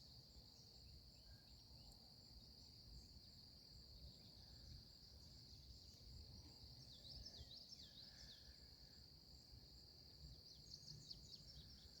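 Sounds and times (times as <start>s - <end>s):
insects droning: 0.1s - 12.0s.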